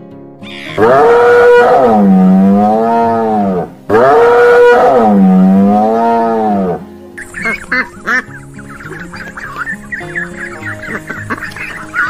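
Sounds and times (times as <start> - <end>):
large animal call: 0.4 - 12.0.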